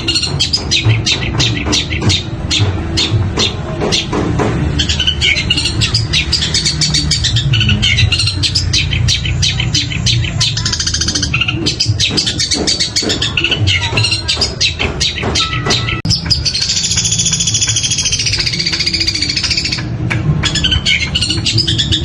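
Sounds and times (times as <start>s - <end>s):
bird singing mimicking chirps: 0.0s - 4.1s, 4.7s - 22.0s
bird rattling trill: 0.0s - 22.0s.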